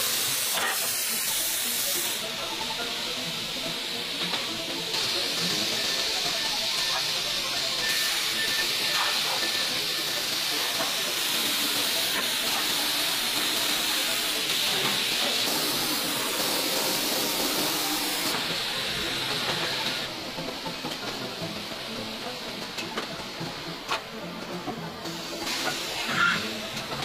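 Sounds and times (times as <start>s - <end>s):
factory noise: 0.0s - 27.0s.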